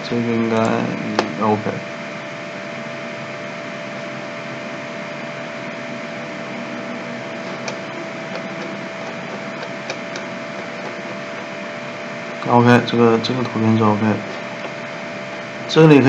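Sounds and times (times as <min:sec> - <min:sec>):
constant mid-pitched hum: 0:00.0 - 0:16.0.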